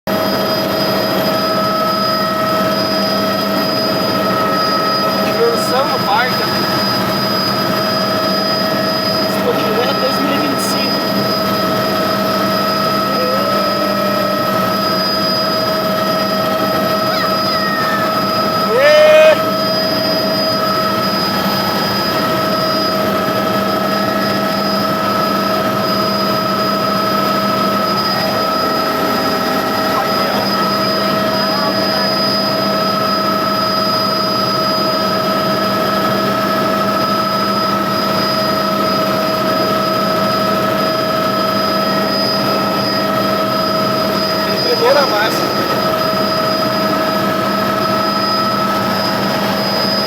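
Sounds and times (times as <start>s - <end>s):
helicopter rotor and engine rush: 0.1s - 50.0s
helicopter turbine whine: 0.1s - 50.0s.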